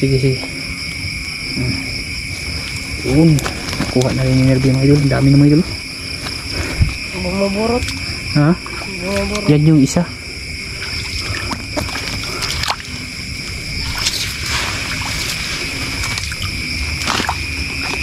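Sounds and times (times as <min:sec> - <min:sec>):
crickets chirping: 0:00.0 - 0:18.0
water sloshing and splashing: 0:01.8 - 0:18.0.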